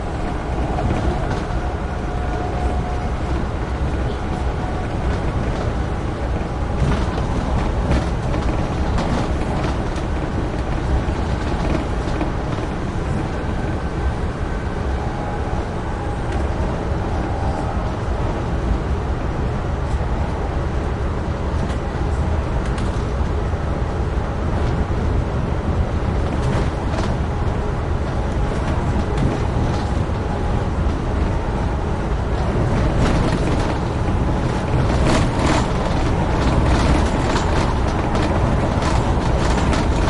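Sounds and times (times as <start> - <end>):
train clattering: 0.0 - 40.0
train wheels rumbling on rail: 0.0 - 40.0.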